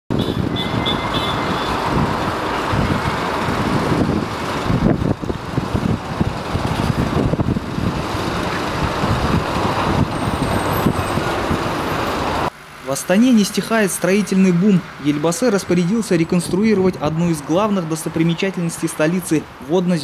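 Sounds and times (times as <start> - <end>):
diesel engines running: 0.1 - 19.7.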